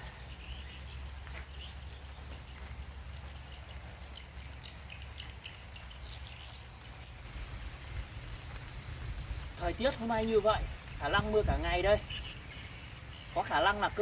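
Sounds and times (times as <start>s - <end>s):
light rain falling: 0.0s - 14.0s
small birds chirping: 0.0s - 14.0s.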